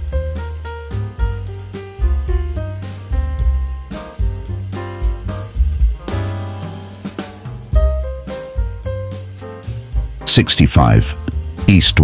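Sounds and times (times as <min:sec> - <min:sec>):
instrumental music with drums: 0:00.0 - 0:12.0.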